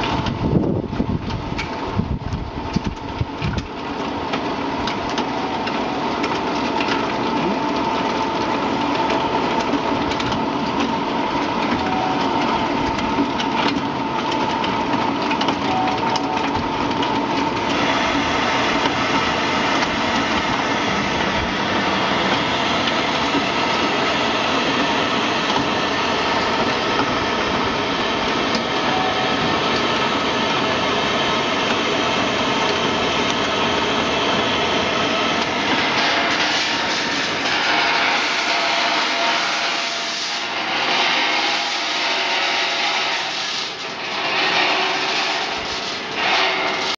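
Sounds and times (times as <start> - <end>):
machine motors and conveyor drone: 0.0 - 46.9.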